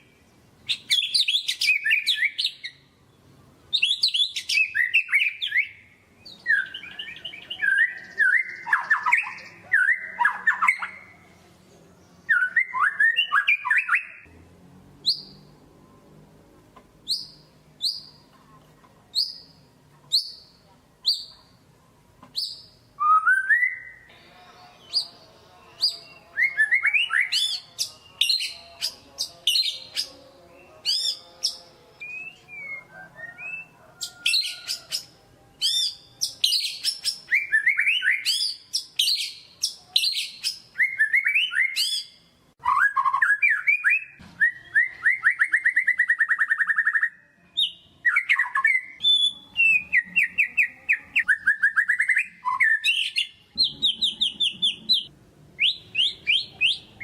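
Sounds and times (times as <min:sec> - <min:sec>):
shama singing whistles and trills: 0:00.0 - 0:02.8, 0:03.7 - 0:11.2, 0:12.2 - 0:14.3, 0:22.4 - 0:57.0.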